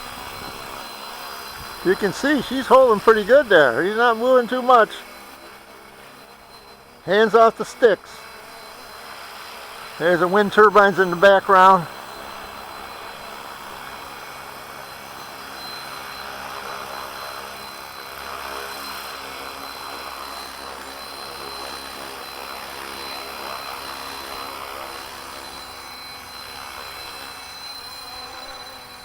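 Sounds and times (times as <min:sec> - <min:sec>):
helicopter rotor buzz: 0:00.0 - 0:29.0
high motor whine: 0:00.0 - 0:29.0.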